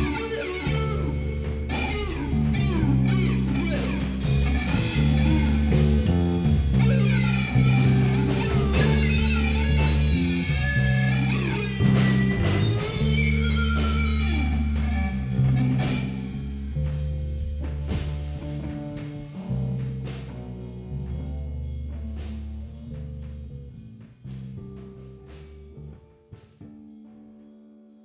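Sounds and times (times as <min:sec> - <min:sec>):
drum and cymbal hits: 0:00.0 - 0:25.7
electric guitar lead lines: 0:00.0 - 0:27.1
low bass notes: 0:00.0 - 0:28.0.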